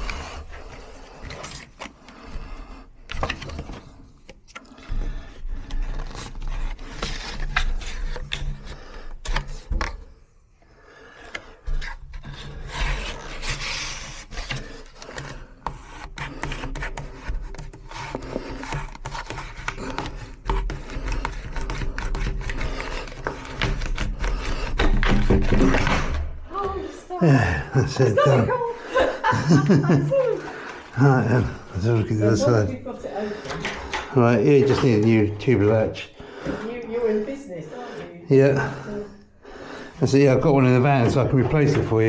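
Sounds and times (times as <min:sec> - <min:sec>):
hand tools scraping wooden door: 0:00.0 - 0:10.2, 0:11.0 - 0:37.8, 0:38.5 - 0:42.0.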